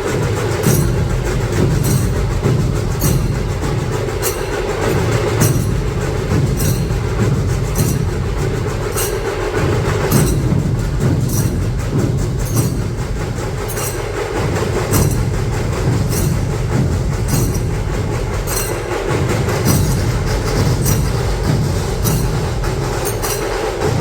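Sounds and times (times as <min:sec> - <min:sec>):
dhol drums beating: 0:00.0 - 0:24.0
tasha drum rattle: 0:00.3 - 0:24.0.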